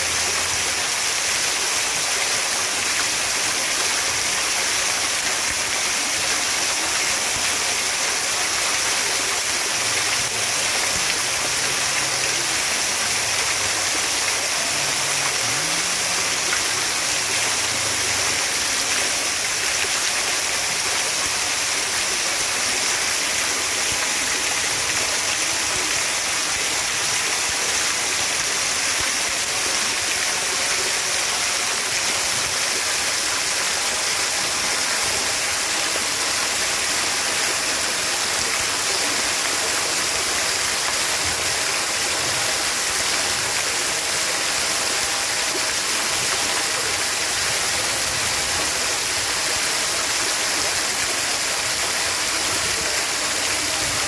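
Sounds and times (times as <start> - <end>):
fountain water splashing into pool: 0.0 - 54.0.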